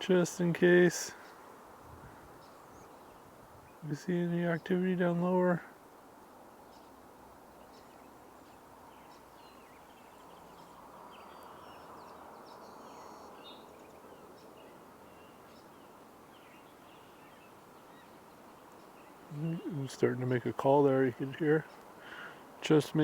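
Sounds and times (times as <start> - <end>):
distant bird chirps: 0.0 - 5.7, 6.6 - 23.0.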